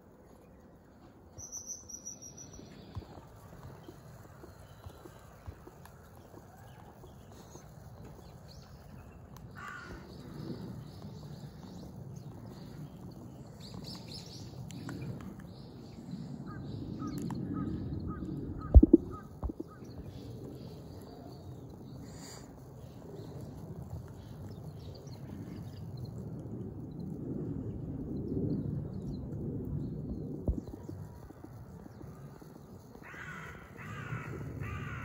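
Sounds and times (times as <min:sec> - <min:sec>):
birds calling faintly: 0:00.0 - 0:35.0
low background rumble: 0:00.0 - 0:35.0.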